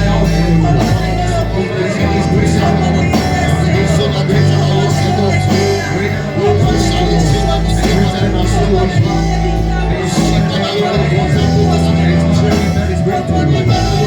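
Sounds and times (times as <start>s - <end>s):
bass line: 0.0s - 14.0s
live band worship music: 0.0s - 14.0s.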